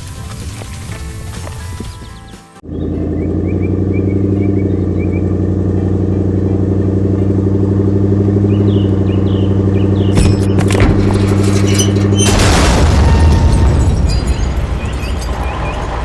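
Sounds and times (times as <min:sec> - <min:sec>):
truck engine humming: 0:00.0 - 0:16.0.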